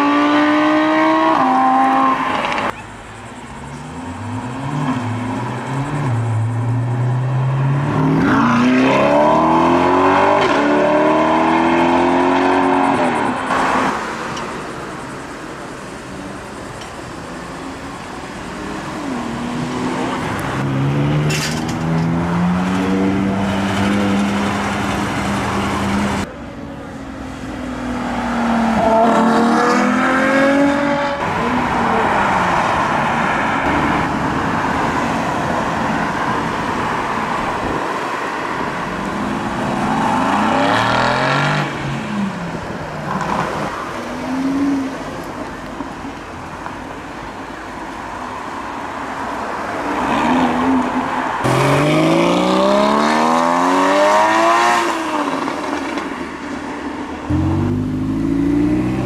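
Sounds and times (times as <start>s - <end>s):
sports car engines revving: 0.0s - 26.3s, 27.4s - 45.6s, 49.8s - 56.3s, 57.2s - 59.0s.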